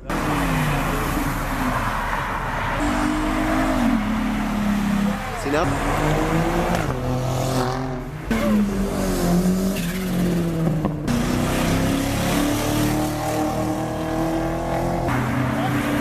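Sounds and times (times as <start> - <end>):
sports car engine revving: 0.0 - 16.0.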